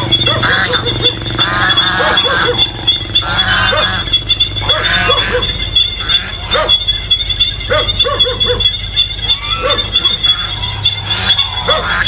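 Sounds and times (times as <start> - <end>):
high-pitched insect buzz: 0.0 - 12.0
short animal calls: 0.0 - 12.0.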